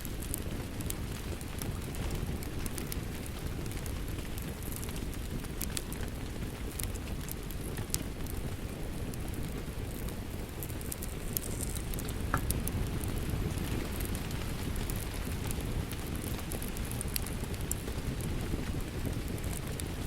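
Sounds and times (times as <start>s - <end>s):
steady rain: 0.0s - 20.0s
wood fire crackling: 0.0s - 20.0s.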